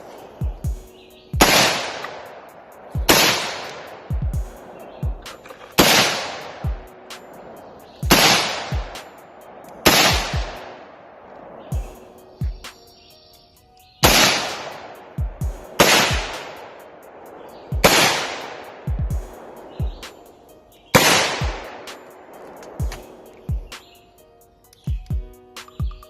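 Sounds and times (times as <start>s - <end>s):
music with bass kicks and hi-hats: 0.0s - 10.8s, 11.7s - 26.0s
echoing gunshots: 0.0s - 12.0s, 14.0s - 23.8s.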